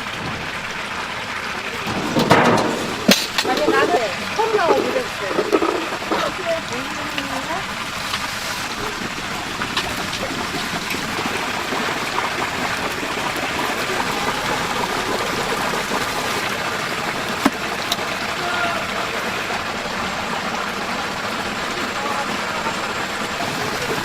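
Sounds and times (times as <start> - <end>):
oil sizzling and bubbling: 0.0 - 24.0.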